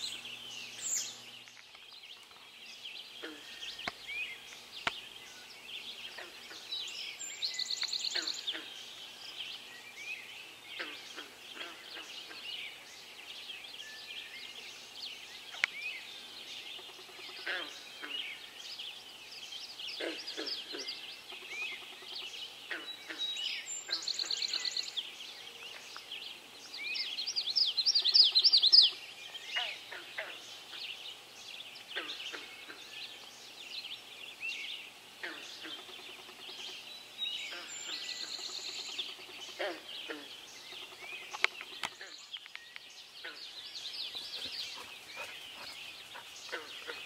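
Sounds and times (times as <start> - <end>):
bird's loud trilled song: 0.0 - 47.0
songbirds singing: 0.0 - 47.0.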